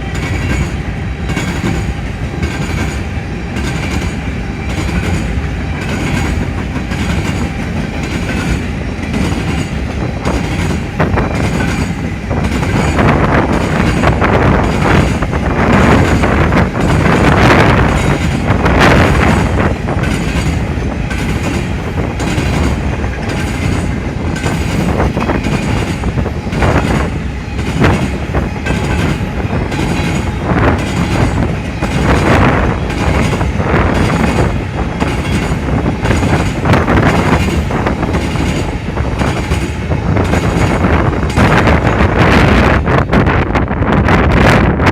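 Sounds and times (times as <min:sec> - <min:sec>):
wheels clanking over rail joints: 0:00.0 - 0:42.2
train wheels rumbling on rails: 0:00.0 - 0:44.9.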